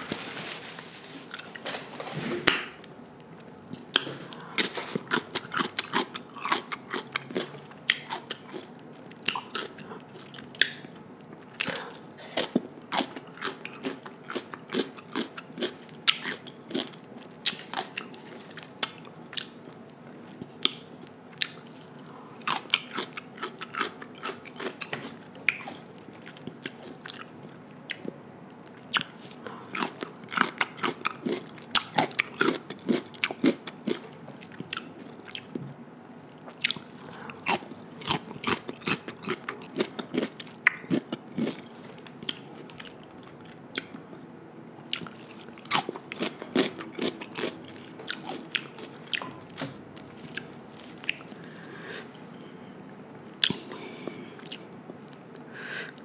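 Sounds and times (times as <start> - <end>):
person chewing food: 1.2 - 44.2, 44.8 - 52.5, 53.2 - 56.0.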